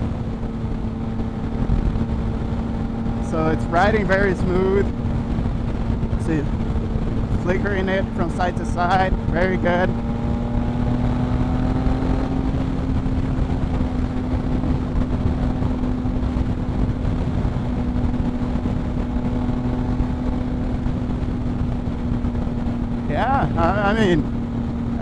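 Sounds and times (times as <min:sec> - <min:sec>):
motorcycle engine cruising: 0:00.0 - 0:25.0
wind noise rushing: 0:00.0 - 0:25.0.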